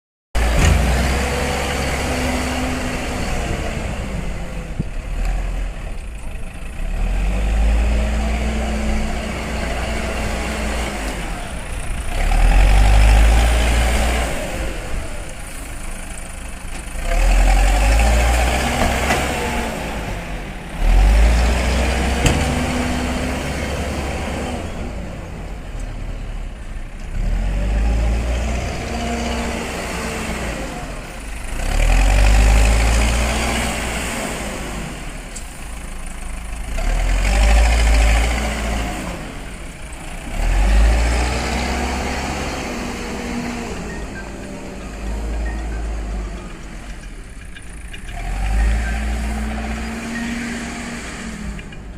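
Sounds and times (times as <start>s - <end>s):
diesel engine revving under load: 0.4s - 51.9s.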